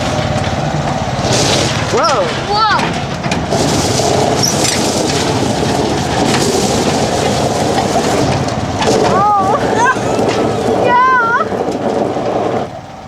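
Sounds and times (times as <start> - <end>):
riding lawn mower running: 0.0 - 13.0.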